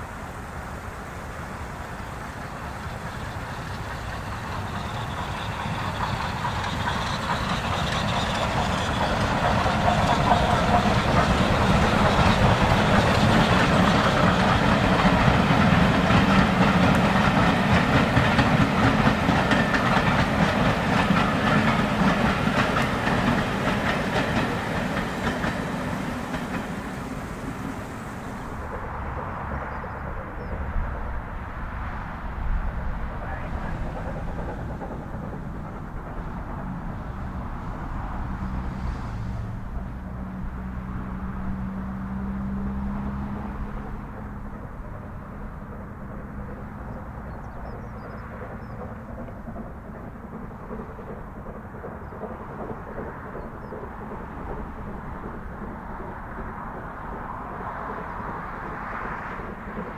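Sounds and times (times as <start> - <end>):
steam train passing: 0.0 - 59.9.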